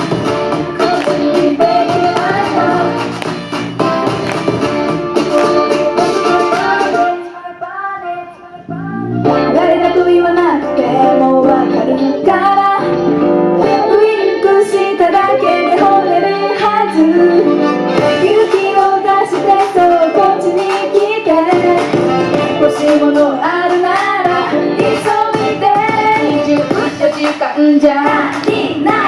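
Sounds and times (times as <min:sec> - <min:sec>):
woman singing pop song: 0:00.0 - 0:03.5, 0:05.4 - 0:29.0
instrumental backing track: 0:00.0 - 0:29.0.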